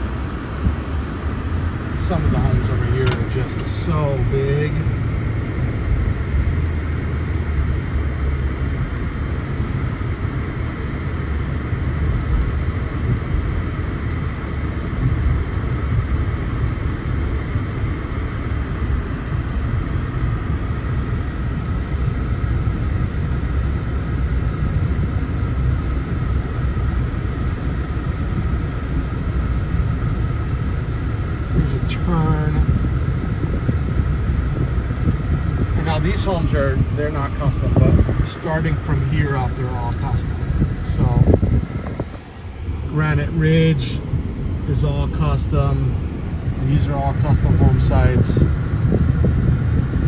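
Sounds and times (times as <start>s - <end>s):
car road and engine rumble: 0.0s - 50.0s
faint steady whine: 0.0s - 50.0s.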